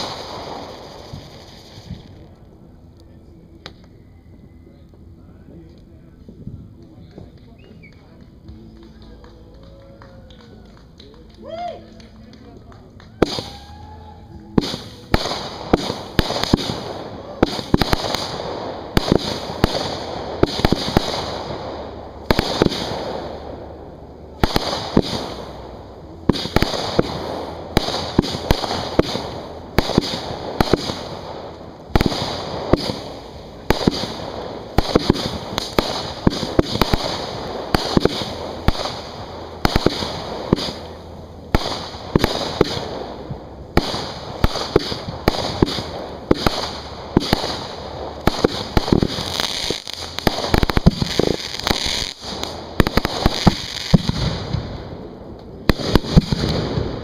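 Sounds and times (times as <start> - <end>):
firework shells firing and bursting: 0.0 - 3.0, 5.9 - 57.0.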